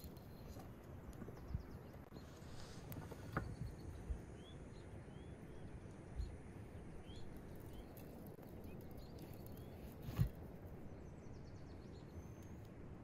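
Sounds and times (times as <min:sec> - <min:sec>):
small bird chirping: 0:00.0 - 0:12.7
faint wind rumble: 0:00.0 - 0:13.0.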